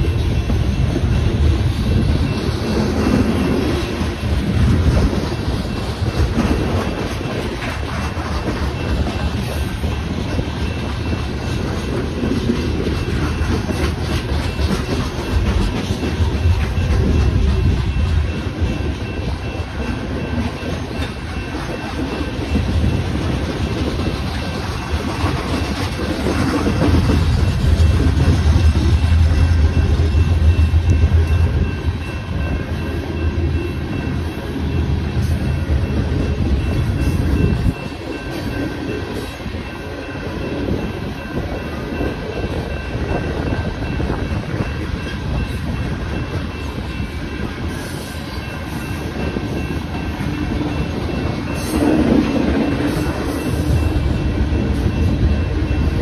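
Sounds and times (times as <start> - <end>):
crossing warning bells: 0.0 - 56.0
train wheels clacking over rails: 0.0 - 56.0.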